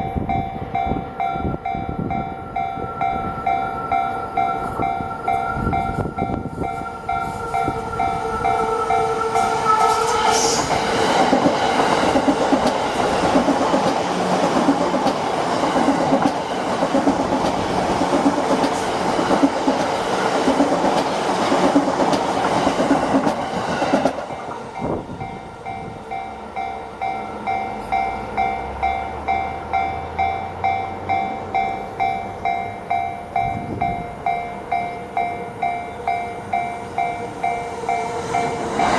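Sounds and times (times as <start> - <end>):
level-crossing warning bell: 0.0 - 15.2, 15.8 - 38.9
electric train passing: 0.0 - 38.9.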